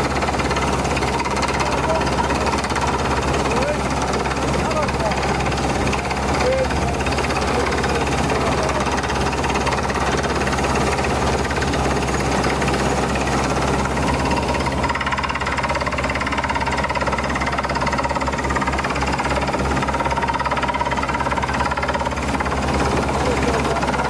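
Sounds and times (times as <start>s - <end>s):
drilling rig engine droning: 0.0s - 24.0s.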